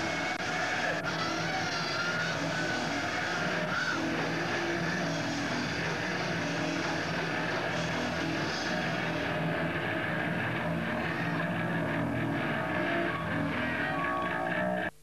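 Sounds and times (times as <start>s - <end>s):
distorted electric guitar: 0.0s - 15.0s
drums: 0.0s - 15.0s.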